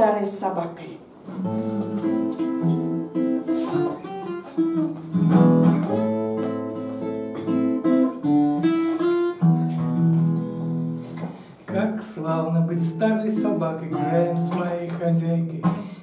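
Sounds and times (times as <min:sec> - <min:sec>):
acoustic guitar playing: 0:01.2 - 0:16.0.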